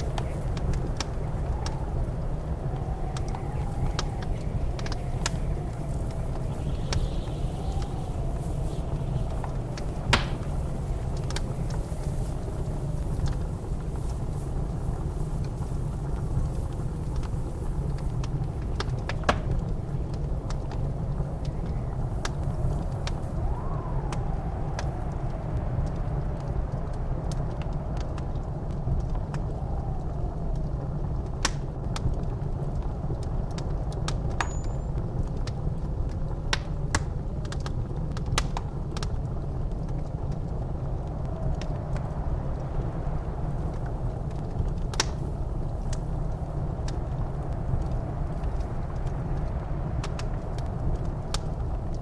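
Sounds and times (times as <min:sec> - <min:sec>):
blizzard wind whistling: 0:00.0 - 0:52.0
wood fire crackling: 0:00.0 - 0:52.0.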